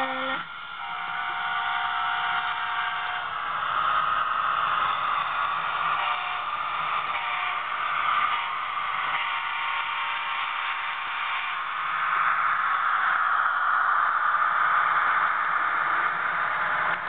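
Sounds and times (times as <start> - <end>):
model locomotive diesel sound: 0.0 - 17.0
model train running on track: 0.0 - 17.0.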